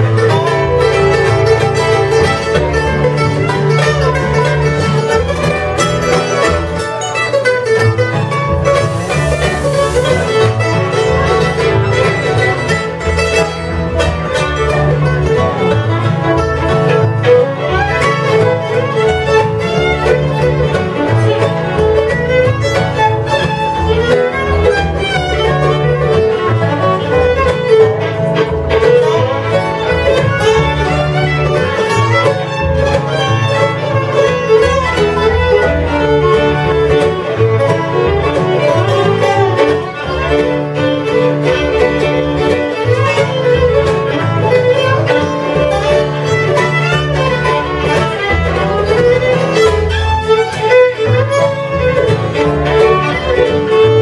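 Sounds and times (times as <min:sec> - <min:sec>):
acoustic guitar: 0:00.0 - 0:54.0
bass line: 0:00.0 - 0:54.0
fiddle lead: 0:00.0 - 0:54.0
mandolin: 0:00.0 - 0:54.0.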